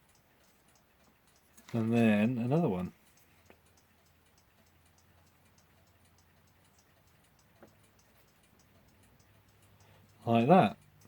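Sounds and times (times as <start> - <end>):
mechanical clock ticking: 0.0 - 11.0
soft clicks: 0.0 - 11.0.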